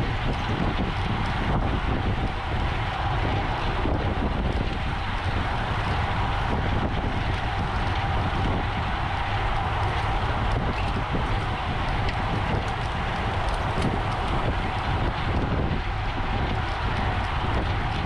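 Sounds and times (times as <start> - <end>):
road and tyre noise: 0.0 - 18.0
wind rushing over microphone: 0.0 - 18.0.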